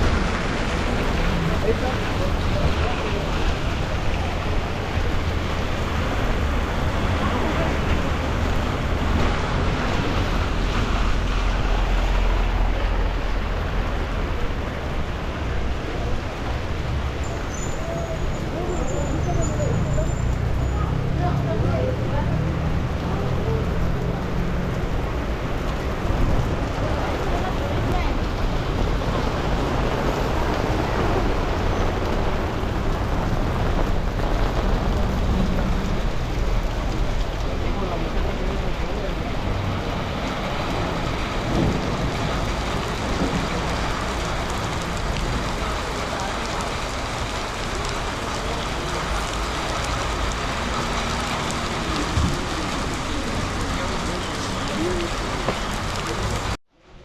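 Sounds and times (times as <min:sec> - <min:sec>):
motorcycle road noise: 0:00.0 - 0:57.0
rain rushing: 0:00.0 - 0:57.0.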